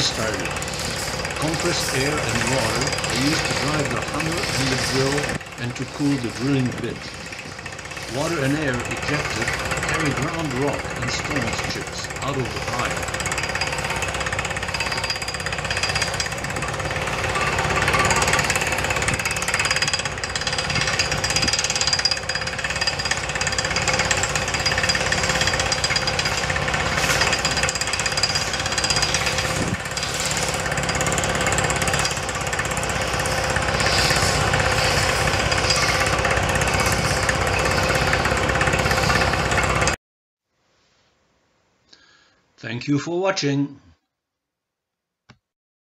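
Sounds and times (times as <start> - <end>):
pneumatic rock drill hammering: 0.0 - 40.0.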